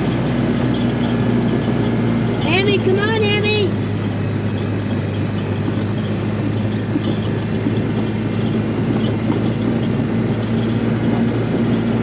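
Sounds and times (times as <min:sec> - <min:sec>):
faint rattling: 0:00.0 - 0:12.0
vehicle engine humming: 0:00.0 - 0:12.0.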